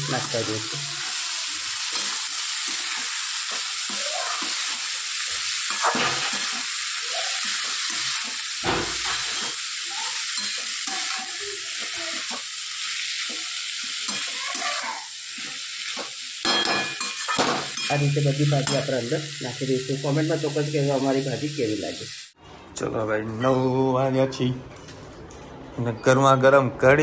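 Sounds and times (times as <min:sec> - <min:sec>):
leaves sizzling in hot oil: 0:00.0 - 0:22.4.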